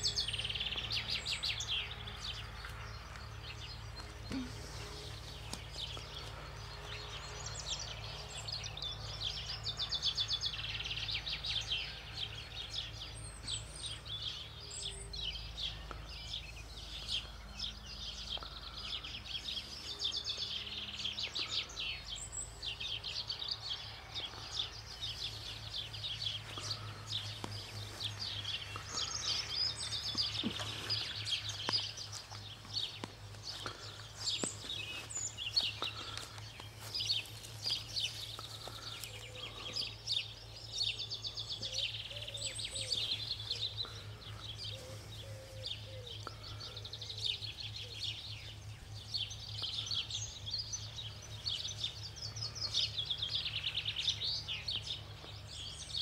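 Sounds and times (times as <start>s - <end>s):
birds chirping and trilling: 0.0s - 56.0s
low steady hum: 0.0s - 56.0s.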